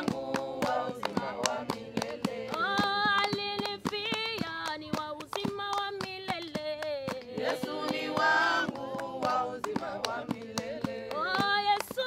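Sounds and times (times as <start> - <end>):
rhythmic hand clapping: 0.0 - 12.0
women singing a hymn: 0.0 - 12.0.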